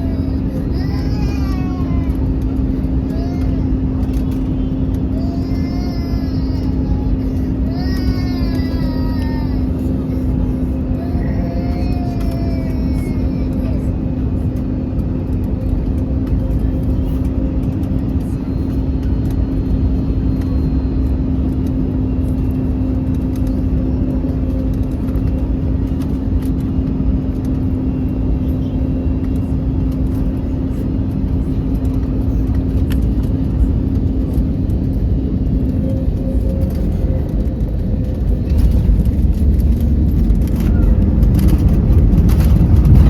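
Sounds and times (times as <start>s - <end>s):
engine and airflow rumble: 0.0s - 43.0s
steady hum: 0.0s - 43.0s.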